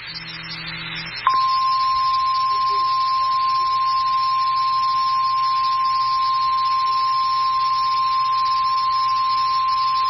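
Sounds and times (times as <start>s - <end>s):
steady alarm tone: 0.0s - 10.0s.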